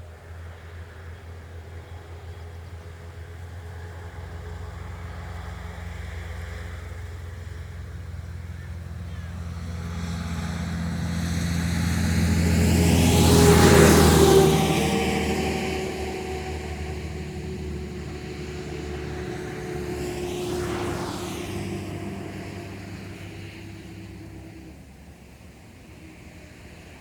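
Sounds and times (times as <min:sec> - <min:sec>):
fast vehicle approaching: 0:00.0 - 0:27.0
low engine rumble: 0:00.0 - 0:27.0.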